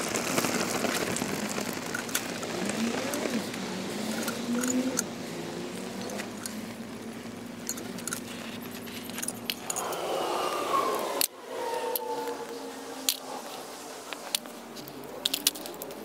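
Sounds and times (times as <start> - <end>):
flames hissing and crackling: 0.0 - 16.0.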